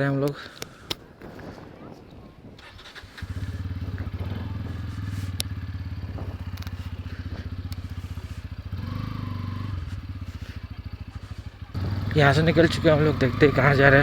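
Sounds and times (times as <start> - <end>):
motorcycle engine starting and idling: 2.6 - 14.0.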